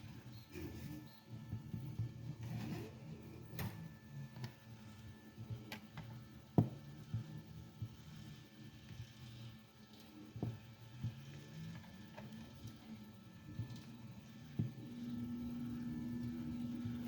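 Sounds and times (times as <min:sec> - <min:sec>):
faint printer hum: 0:00.0 - 0:17.0.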